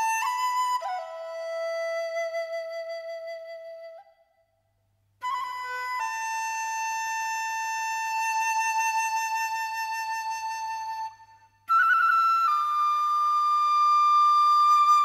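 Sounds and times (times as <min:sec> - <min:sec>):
solo flute: 0:00.0 - 0:04.6, 0:05.2 - 0:15.0.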